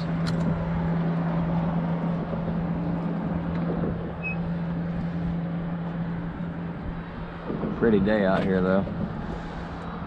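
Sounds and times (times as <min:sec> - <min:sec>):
low engine hum: 0:00.0 - 0:10.0
wind: 0:00.0 - 0:10.0.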